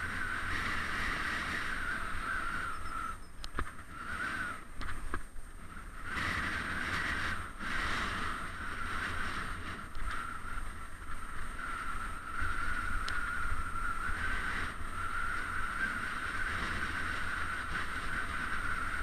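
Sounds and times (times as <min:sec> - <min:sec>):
bicycle tyre hiss: 0:00.0 - 0:19.0
wind rumble on microphone: 0:00.0 - 0:19.0.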